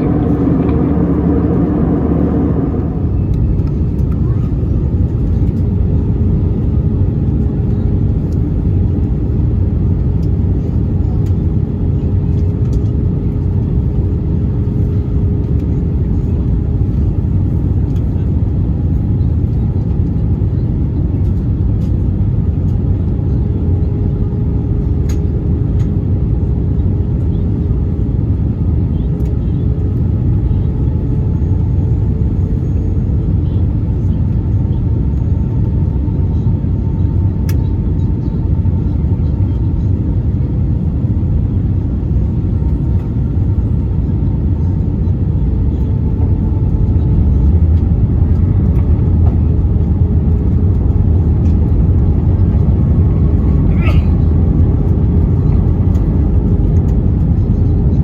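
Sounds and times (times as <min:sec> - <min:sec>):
low roar of engines and airflow: 0:00.0 - 0:58.0.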